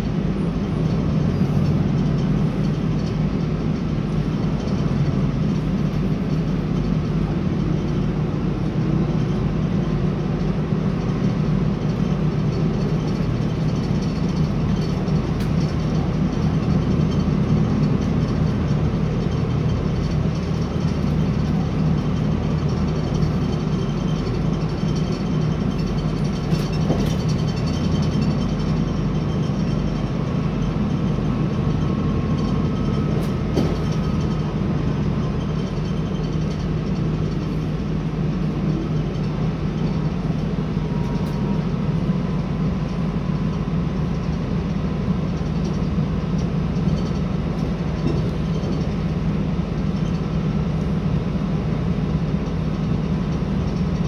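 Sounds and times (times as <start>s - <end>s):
train rumbling in motion: 0.0s - 54.0s.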